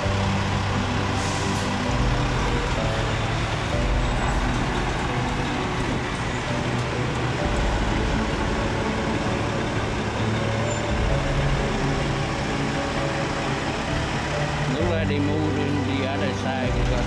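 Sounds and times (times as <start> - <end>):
diesel truck engine hum: 0.0 - 17.0.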